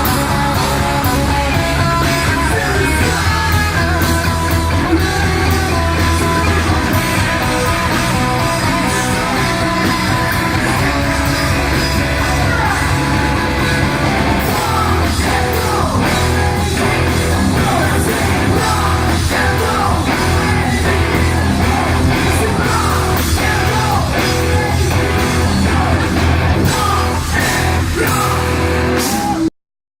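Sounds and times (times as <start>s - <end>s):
bass guitar: 0.0s - 29.5s
distorted electric guitars: 0.0s - 29.5s
drums: 0.0s - 29.5s
person singing: 0.0s - 29.5s.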